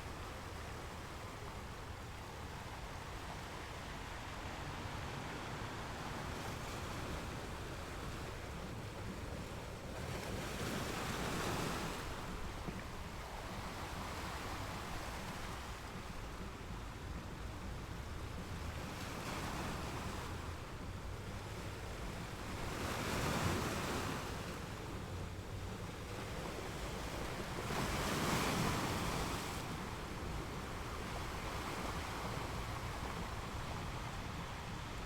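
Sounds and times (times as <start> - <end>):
ocean waves washing ashore: 0.0 - 35.0
large waves breaking: 0.2 - 35.0.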